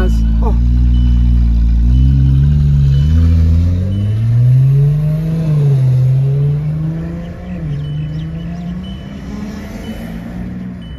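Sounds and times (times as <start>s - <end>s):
car engine accelerating hard: 0.0s - 10.9s.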